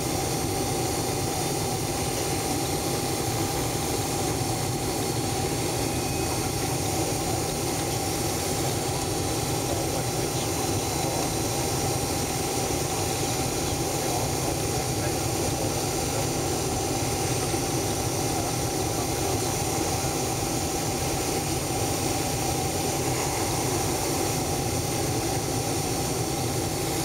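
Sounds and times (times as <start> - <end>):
jet engine and airflow noise: 0.0 - 27.0.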